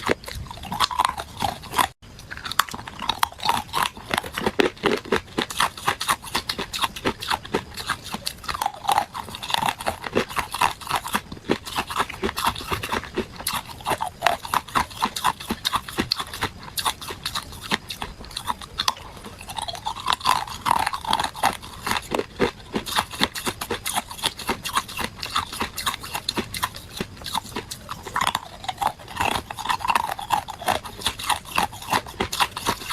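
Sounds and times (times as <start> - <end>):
ice cubes crunched by teeth: 0.0 - 32.9.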